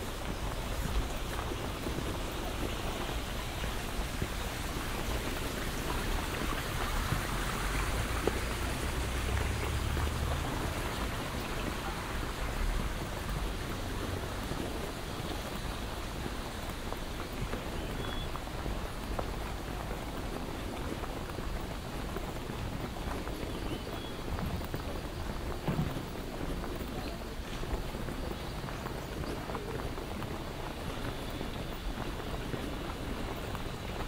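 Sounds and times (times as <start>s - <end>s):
steady outdoor hiss: 0.0s - 34.0s
wind rumble on microphone: 0.0s - 34.0s.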